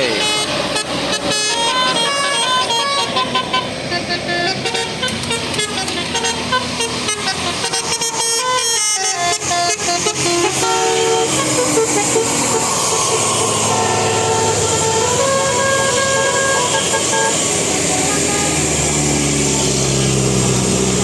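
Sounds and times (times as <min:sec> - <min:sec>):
multi-tone bus air horn tunes: 0:00.0 - 0:19.9
bus and road noise: 0:00.0 - 0:21.0.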